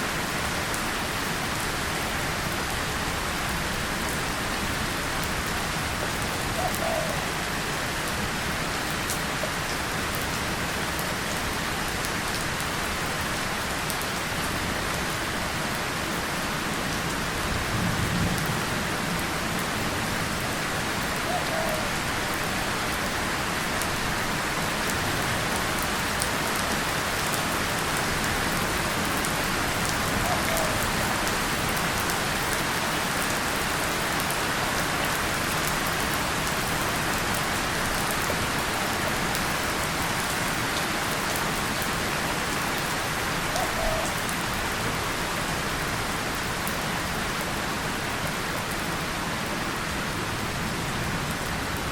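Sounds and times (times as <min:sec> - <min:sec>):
rain on a tin surface: 0:00.0 - 0:51.9.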